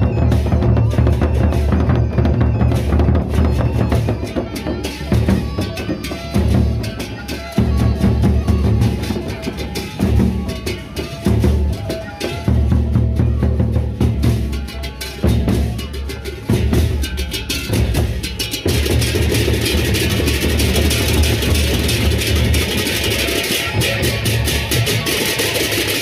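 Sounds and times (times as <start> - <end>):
hand cymbals clashing: 0.0 - 26.0
large barrel drums beaten: 0.0 - 26.0.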